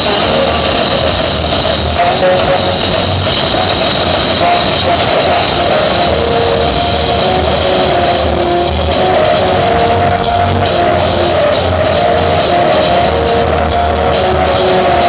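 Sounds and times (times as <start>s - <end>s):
loud music with pulsing bass: 0.0s - 15.0s.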